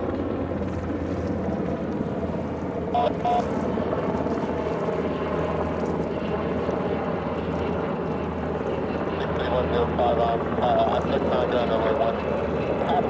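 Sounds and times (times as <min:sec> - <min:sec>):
helicopter flying past: 0:00.0 - 0:13.0.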